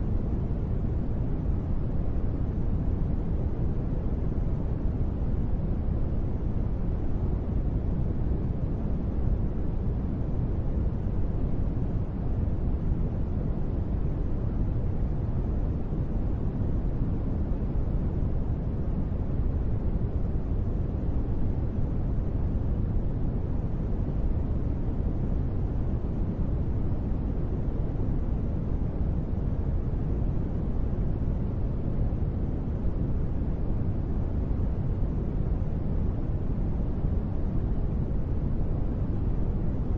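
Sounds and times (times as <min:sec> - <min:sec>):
deep rain white noise rumble: 0:00.0 - 0:39.9.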